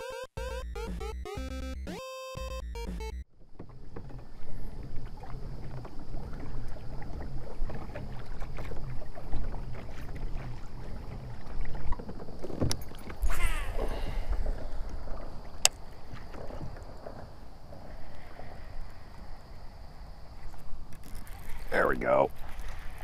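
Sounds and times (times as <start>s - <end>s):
water lapping against a hull: 3.3s - 23.0s.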